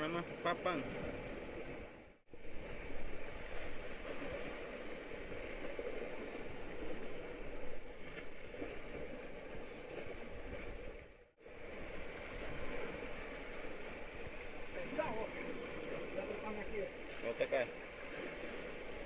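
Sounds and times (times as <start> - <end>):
surf washing over rocks: 0.0 - 19.0.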